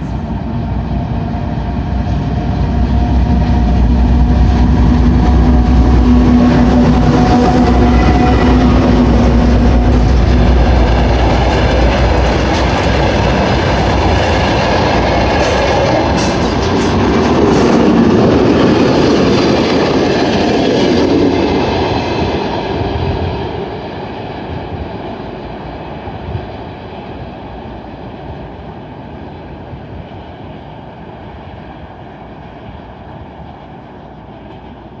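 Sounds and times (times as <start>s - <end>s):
diesel locomotive engine drone: 0.0s - 35.0s
train wheels clattering on rails: 0.0s - 35.0s.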